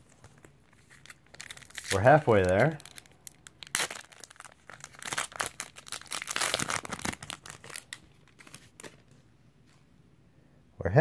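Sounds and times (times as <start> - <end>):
plastic wrapper crinkling and tearing: 0.0 - 9.1.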